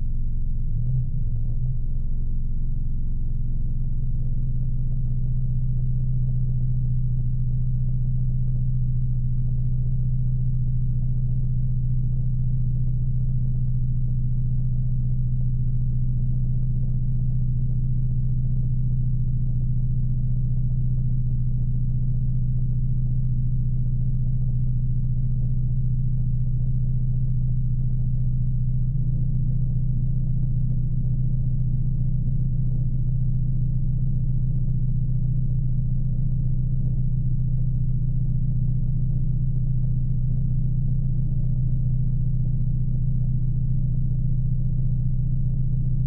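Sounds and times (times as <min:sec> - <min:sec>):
low rumble: 0:00.0 - 0:46.0
steady low drone: 0:00.0 - 0:46.0.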